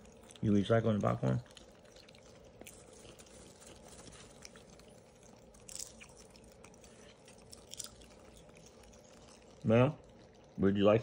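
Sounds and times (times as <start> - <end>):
monkey chewing: 0.0 - 11.0.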